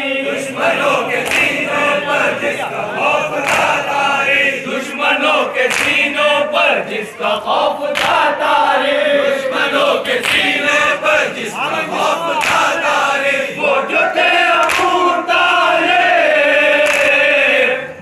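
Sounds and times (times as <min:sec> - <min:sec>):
crowd of men chanting: 0:00.0 - 0:18.0
person reciting into a microphone: 0:00.0 - 0:18.0.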